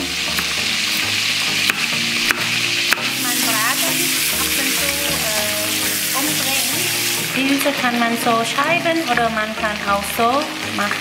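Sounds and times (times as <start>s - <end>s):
tofu sizzling in hot oil: 0.0s - 11.0s.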